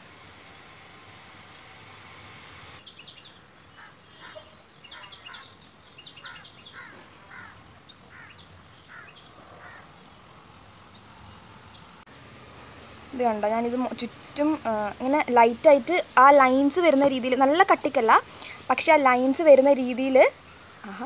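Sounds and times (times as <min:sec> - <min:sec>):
background hiss: 0:00.0 - 0:21.0
birds chirping: 0:01.0 - 0:21.0.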